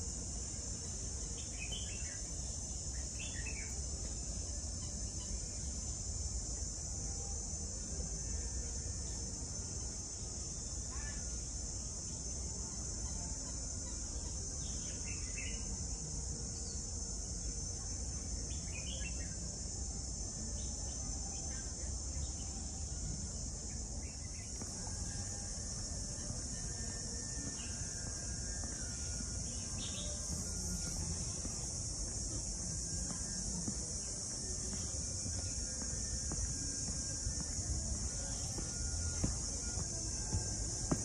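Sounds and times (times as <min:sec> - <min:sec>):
chorus of insects: 0:00.0 - 0:41.0.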